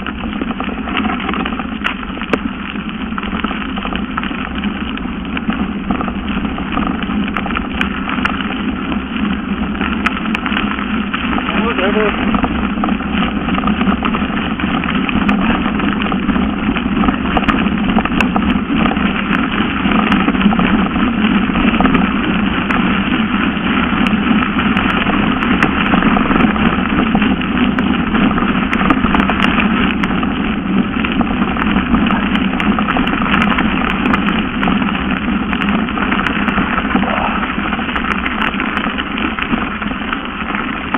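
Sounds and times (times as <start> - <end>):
bike tyres rolling on gravel: 0.0 - 40.9
wind on microphone: 0.0 - 40.9.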